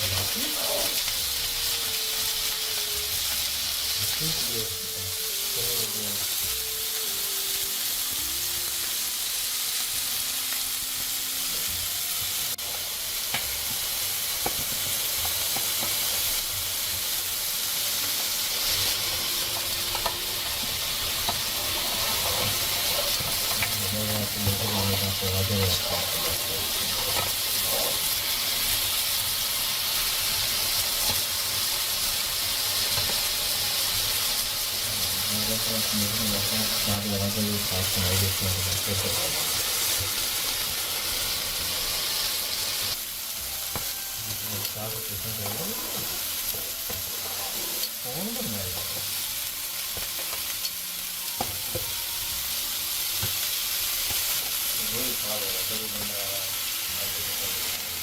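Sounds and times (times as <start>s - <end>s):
food sizzling and frying: 0.0s - 58.0s.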